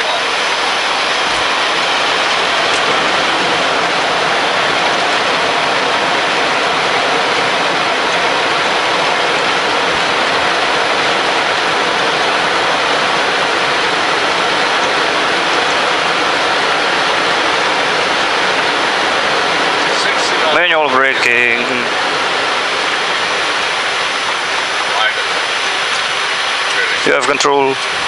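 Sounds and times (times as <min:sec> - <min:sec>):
jet engine and airflow roar: 0:00.0 - 0:28.0.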